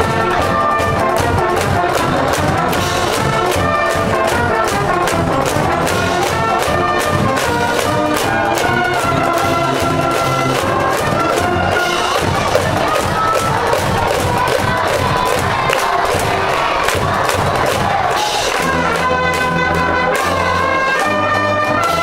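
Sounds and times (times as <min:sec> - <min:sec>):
drum beat: 0:00.0 - 0:21.1
brass band playing: 0:00.0 - 0:22.0.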